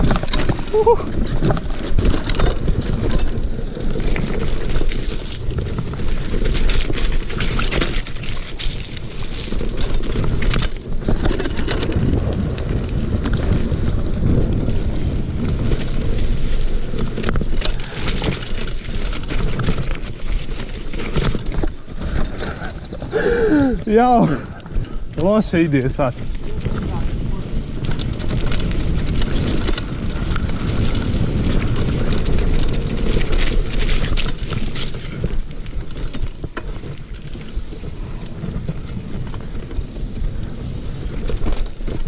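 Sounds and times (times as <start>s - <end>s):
bike rattling and knocking: 0.0s - 42.0s
tyres rumbling on dirt: 0.0s - 42.0s
wind buffeting microphone: 0.0s - 42.0s.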